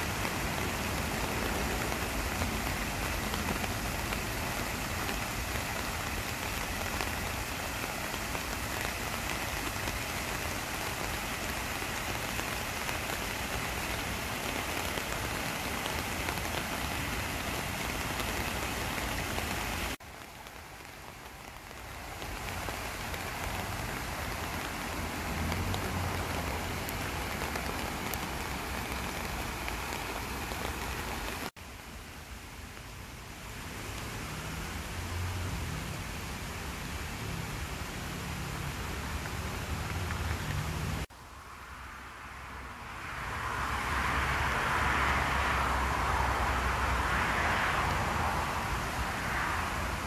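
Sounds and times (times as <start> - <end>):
stream splashing over stones: 0.0 - 41.1, 43.0 - 50.0
steady rain falling: 0.0 - 50.0.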